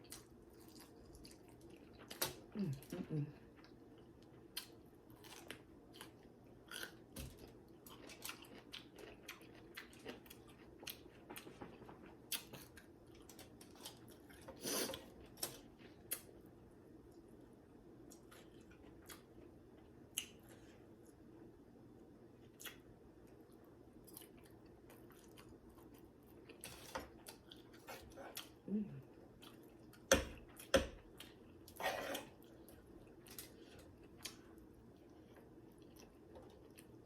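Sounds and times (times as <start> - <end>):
person chewing food: 0.0 - 17.4, 18.0 - 21.4, 22.3 - 37.0.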